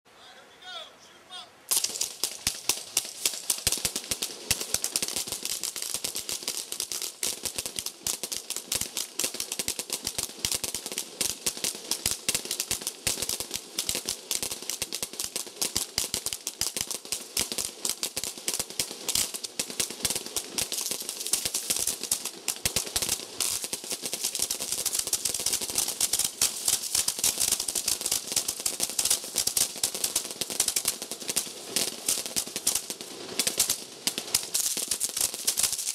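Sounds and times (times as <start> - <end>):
fireworks popping and cracking: 1.7 - 35.9.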